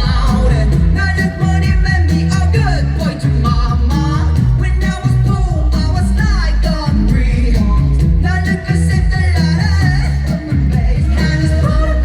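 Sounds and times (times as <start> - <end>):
bass-heavy pop backing music: 0.0 - 12.0
man singing: 0.0 - 12.0.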